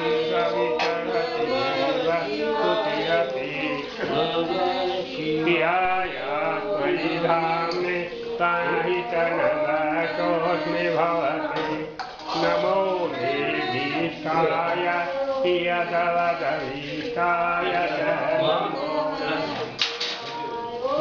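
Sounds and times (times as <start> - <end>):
voices chanting a melody: 0.0 - 21.0.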